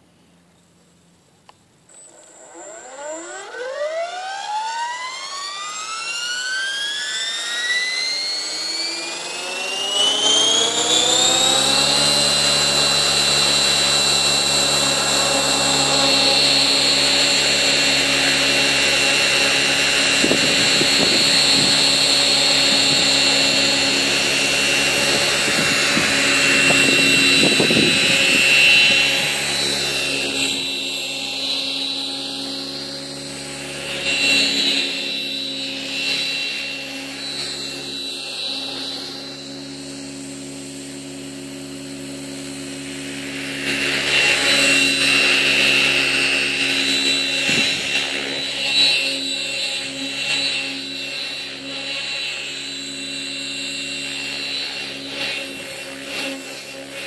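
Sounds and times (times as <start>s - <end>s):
rc helicopter motor whine: 0.0s - 57.0s.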